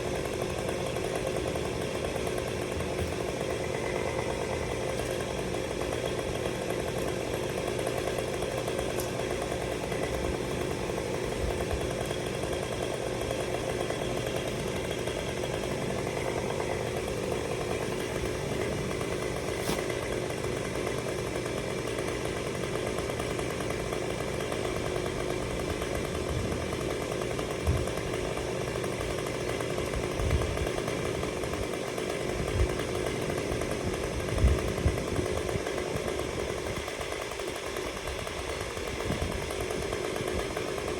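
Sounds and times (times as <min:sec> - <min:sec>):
chainsaw running: 0:00.0 - 0:40.9.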